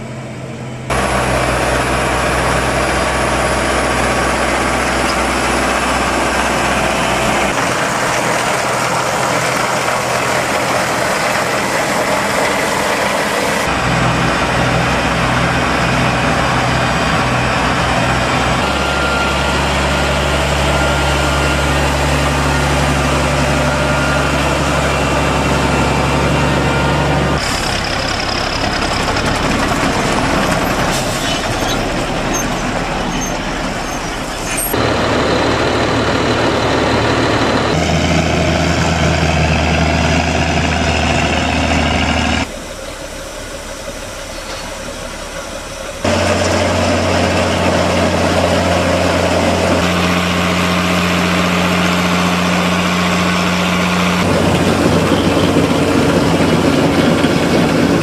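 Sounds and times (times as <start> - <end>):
tractor diesel engines: 0.0 - 58.0.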